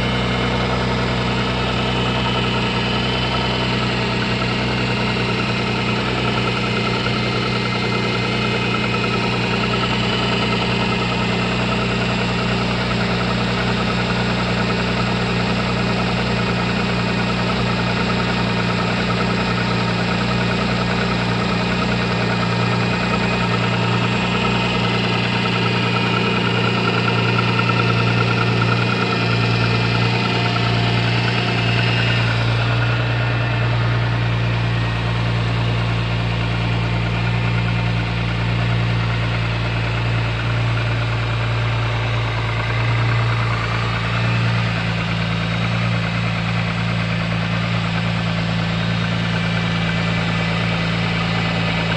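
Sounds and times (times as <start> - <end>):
car engine idling with knock: 0.0 - 51.9.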